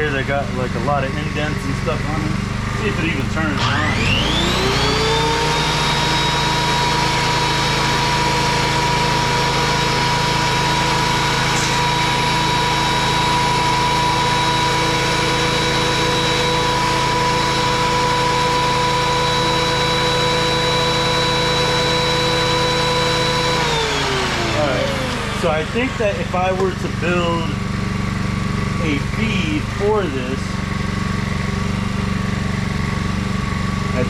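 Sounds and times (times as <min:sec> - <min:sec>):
thickness planer whining: 0:00.0 - 0:34.0.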